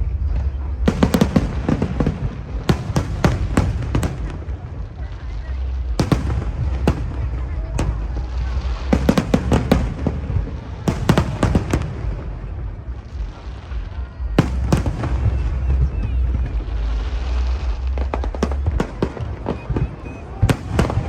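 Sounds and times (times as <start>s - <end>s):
fireworks bangs: 0.0s - 21.0s
steady low rumble: 0.0s - 21.0s.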